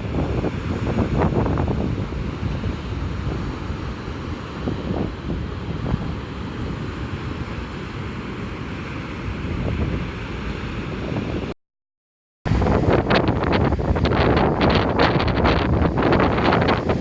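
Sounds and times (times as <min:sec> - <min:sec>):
storm surf: 0:00.0 - 0:11.5, 0:12.5 - 0:17.0
wind buffeting microphone: 0:00.0 - 0:11.5, 0:12.5 - 0:17.0
strong wind: 0:00.0 - 0:11.6, 0:12.5 - 0:17.0.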